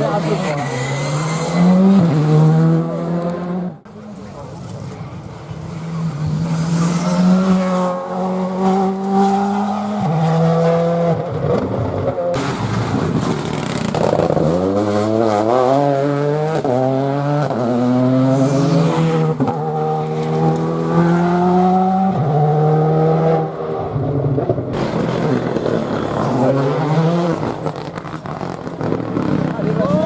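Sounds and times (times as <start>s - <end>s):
rally car engine at full throttle: 0.0s - 30.0s.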